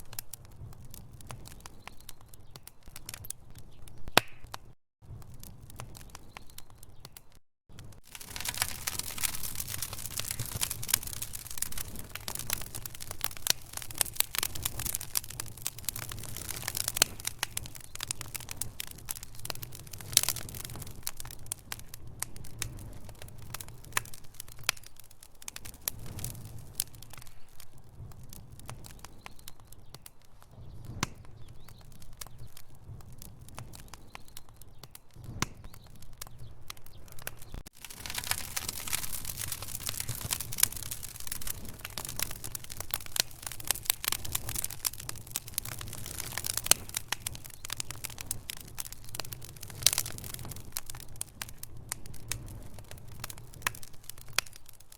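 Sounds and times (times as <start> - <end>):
logs crackling and popping: 0.0 - 54.9
low rumble of flames: 0.0 - 54.9.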